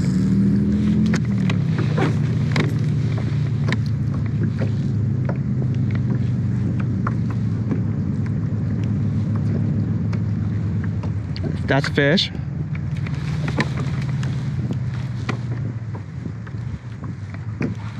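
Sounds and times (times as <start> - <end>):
low motor hum: 0.0 - 17.9.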